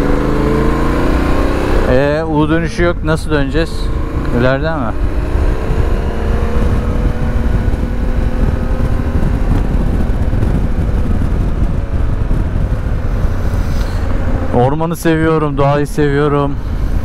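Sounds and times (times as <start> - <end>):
motorcycle engine drone: 0.0 - 17.0
wind buffeting microphone: 0.0 - 17.0.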